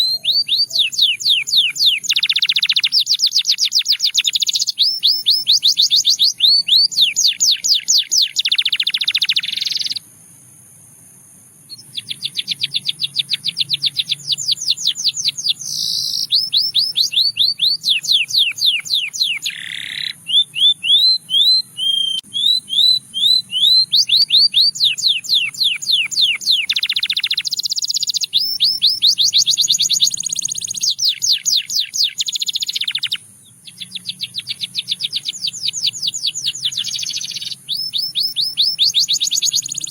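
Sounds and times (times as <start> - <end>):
canary singing trills: 0.0 - 10.1, 11.7 - 39.9.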